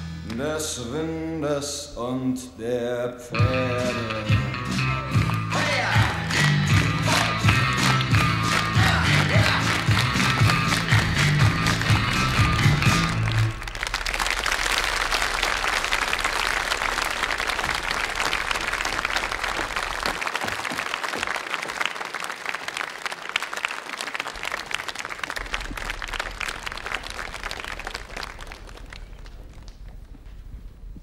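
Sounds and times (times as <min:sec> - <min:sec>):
large audience applauding: 0:03.8 - 0:30.1.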